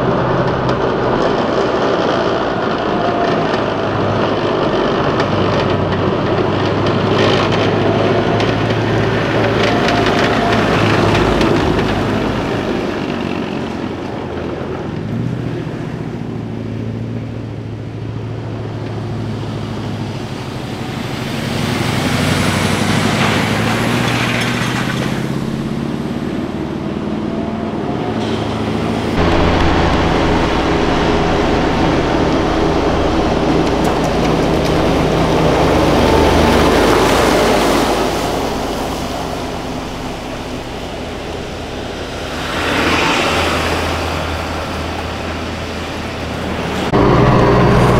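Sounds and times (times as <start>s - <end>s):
heavy truck low rumble: 0.0s - 47.9s
military vehicles driving past: 0.0s - 47.9s.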